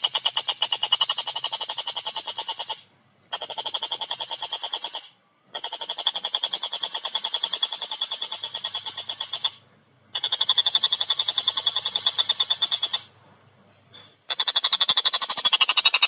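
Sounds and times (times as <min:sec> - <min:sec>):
kingfisher rattling cackle: 0:00.0 - 0:13.1, 0:14.3 - 0:16.0.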